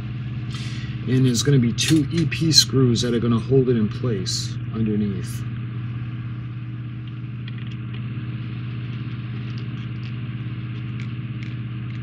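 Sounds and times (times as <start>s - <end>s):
low hum with pitched drone: 0.0s - 12.0s.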